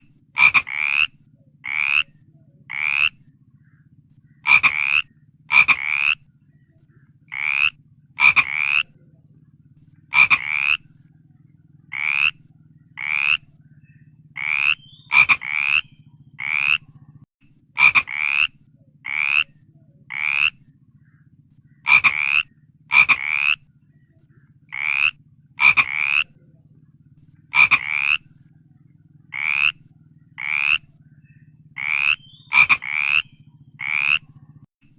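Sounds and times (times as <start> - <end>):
frog croaking: 0.0 - 6.3, 7.2 - 23.7, 24.6 - 34.9.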